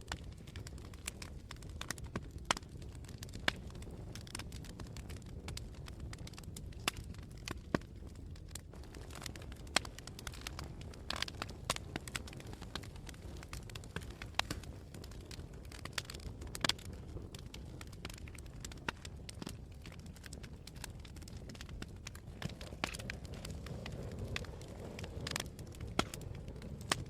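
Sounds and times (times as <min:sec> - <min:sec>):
burning wood crackling and popping: 0:00.0 - 0:27.0
campfire low rush: 0:00.0 - 0:27.0.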